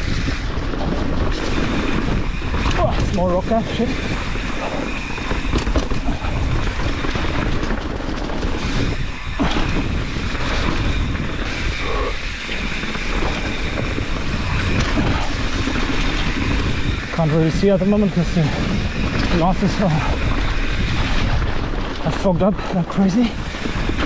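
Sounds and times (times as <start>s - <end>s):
bike rattling over rock: 0.0s - 24.0s
bike tyres rumbling: 0.0s - 24.0s
wind buffeting microphone: 0.0s - 24.0s.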